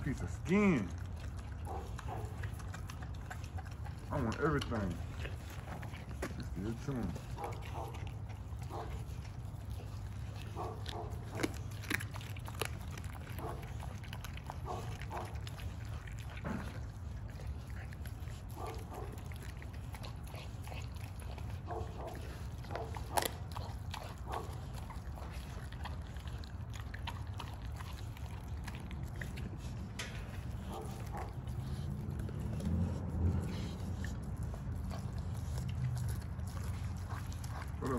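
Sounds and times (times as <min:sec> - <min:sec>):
dog chewing and crunching: 0:00.0 - 0:37.9.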